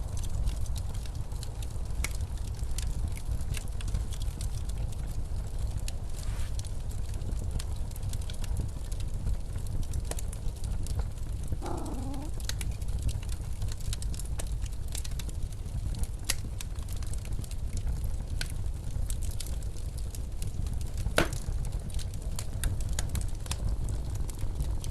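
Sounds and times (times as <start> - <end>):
low rumble of blizzard wind: 0.0 - 24.9
wood fire crackling: 0.0 - 24.9.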